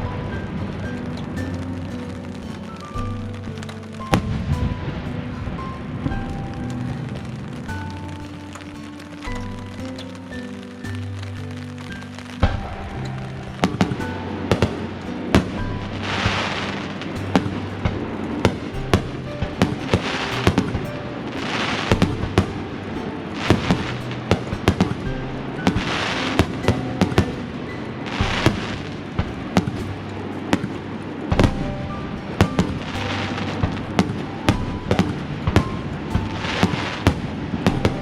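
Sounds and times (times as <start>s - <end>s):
background music: 0.0s - 38.0s
fireworks bursting: 0.0s - 38.0s.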